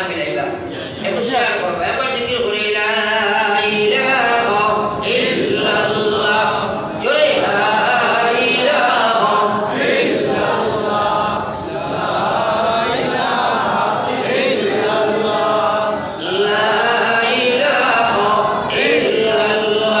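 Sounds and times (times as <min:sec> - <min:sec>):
man chanting through a microphone: 0:00.0 - 0:20.0.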